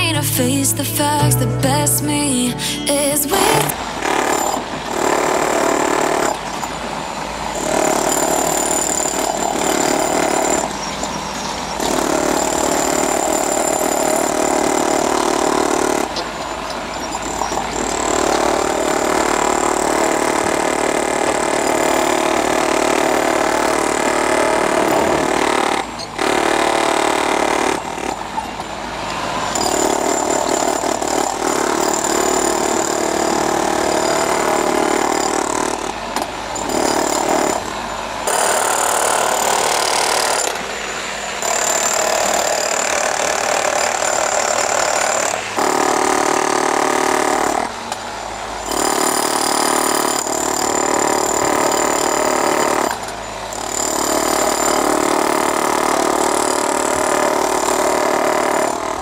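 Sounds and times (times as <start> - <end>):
demolition hammer chiselling concrete: 4.0 - 6.9, 7.5 - 28.8, 29.5 - 59.0.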